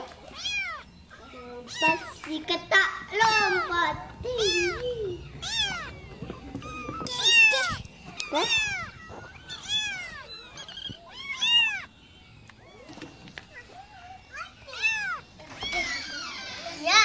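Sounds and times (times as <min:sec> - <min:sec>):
kittens meowing: 0:00.0 - 0:02.3, 0:03.0 - 0:17.0.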